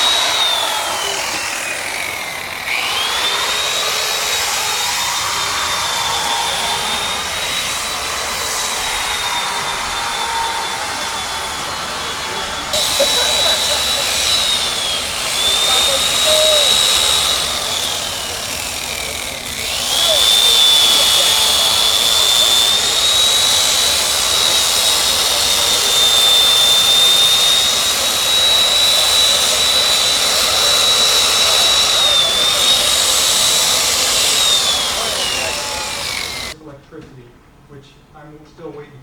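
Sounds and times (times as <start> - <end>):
power tool motor whining cutting ice: 0.0 - 36.6.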